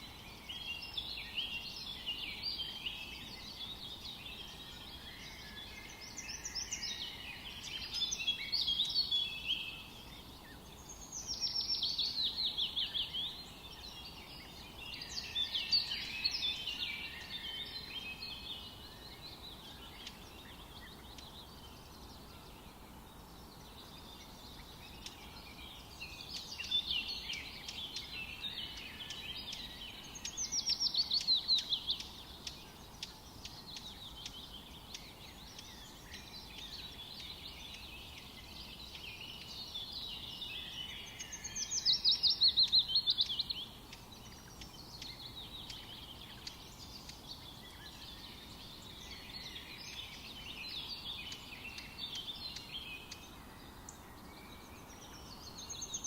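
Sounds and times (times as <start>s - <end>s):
songbirds singing: 0.0s - 56.0s
steady forest hiss: 0.0s - 56.0s.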